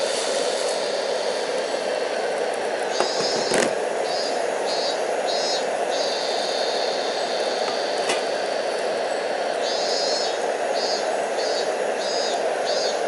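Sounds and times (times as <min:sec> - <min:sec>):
gas flame hiss: 0:00.0 - 0:13.0.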